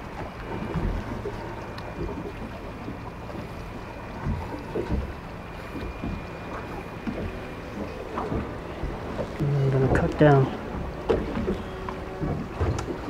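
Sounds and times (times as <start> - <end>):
water noise: 0.0 - 13.0
wind: 0.0 - 13.0
soft low knocks: 0.1 - 13.0.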